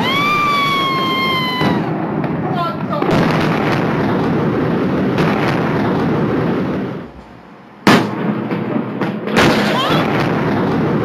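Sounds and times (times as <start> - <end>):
explosion rumbling roar: 0.0 - 11.0
sharp cracks: 0.0 - 11.0.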